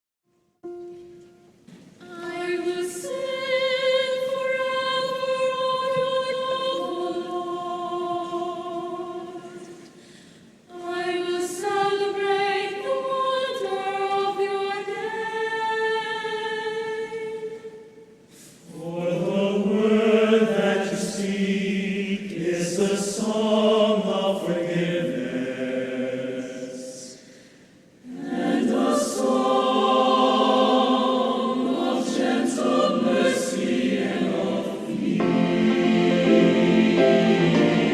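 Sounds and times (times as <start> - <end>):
choir singing a cappella: 2.0 - 10.0, 10.6 - 37.9.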